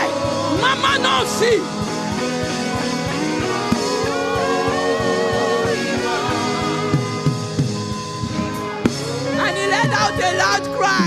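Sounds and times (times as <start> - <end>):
instrumental worship music: 0.0 - 11.0.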